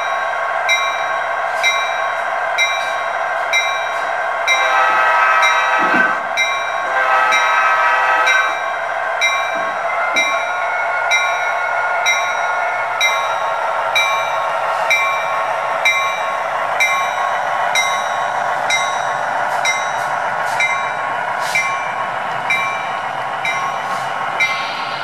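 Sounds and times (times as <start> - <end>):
locomotive bell ringing: 0.0 - 5.8, 6.4 - 7.7, 8.3 - 25.0.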